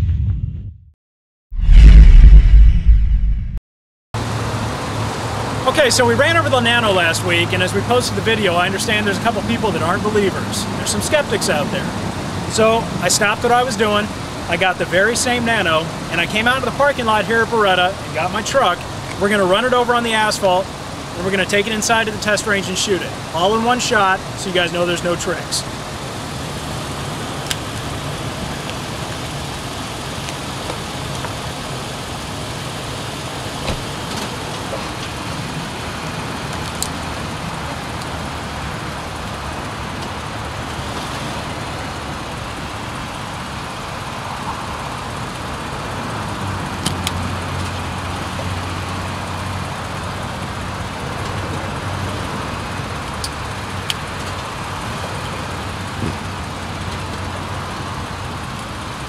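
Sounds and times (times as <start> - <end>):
truck engine and road noise: 4.2 - 59.0.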